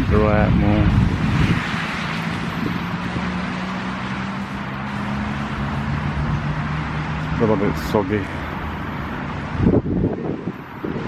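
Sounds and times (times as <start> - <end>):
low engine hum: 0.0 - 11.0
wind hiss: 0.0 - 11.0.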